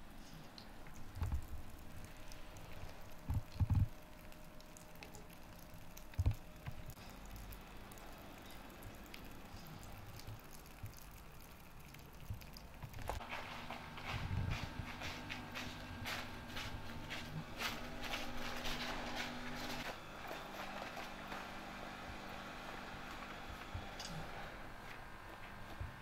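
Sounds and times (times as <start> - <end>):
melting snow dripping: 0.0 - 24.5.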